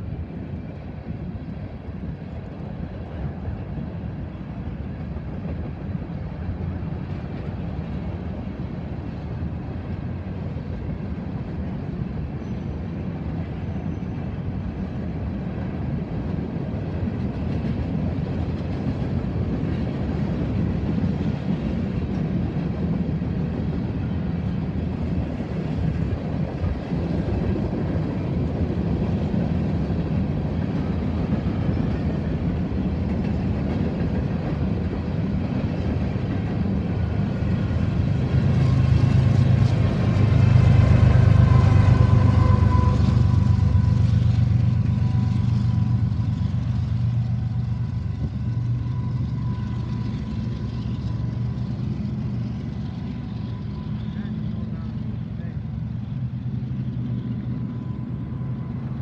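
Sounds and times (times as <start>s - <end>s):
steel wheels rolling on rail: 0.0s - 59.0s.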